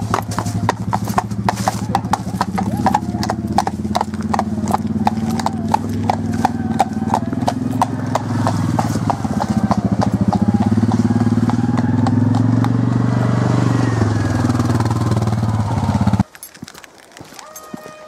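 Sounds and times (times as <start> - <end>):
horse hooves clip-clopping on tarmac: 0.0 - 13.2, 14.4 - 18.0
quad bike engine running: 0.0 - 16.2.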